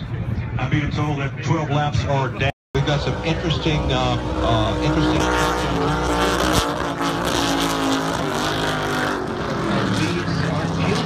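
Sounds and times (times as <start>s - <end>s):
race boat engines roaring: 0.0s - 11.0s.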